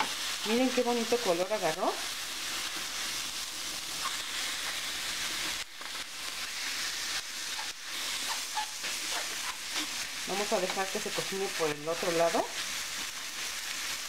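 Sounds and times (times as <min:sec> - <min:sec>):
chicken sizzling in frying pan: 0:00.0 - 0:14.0.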